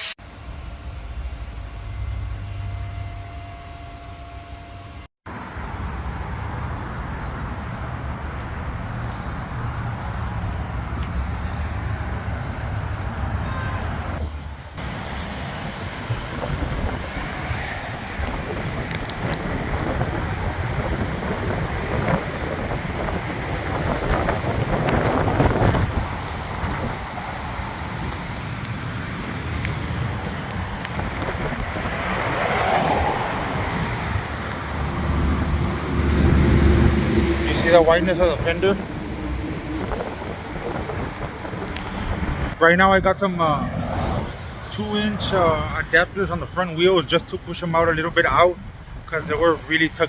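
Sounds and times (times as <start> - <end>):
truck engine rumbling: 5.3 - 50.0.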